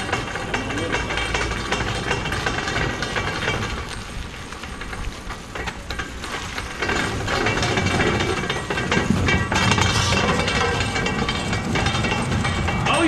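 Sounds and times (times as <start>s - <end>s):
car body clanks and rattles: 0.0s - 13.0s
car rolling over concrete: 0.0s - 13.0s.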